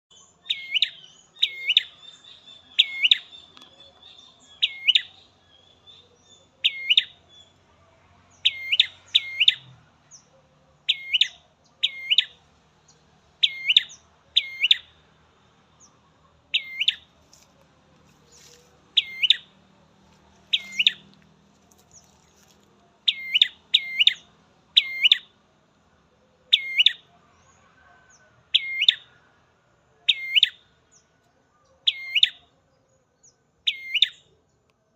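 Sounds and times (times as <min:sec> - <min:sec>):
songbird sharp chirps: 0:00.1 - 0:25.4, 0:26.2 - 0:29.4, 0:30.0 - 0:34.8.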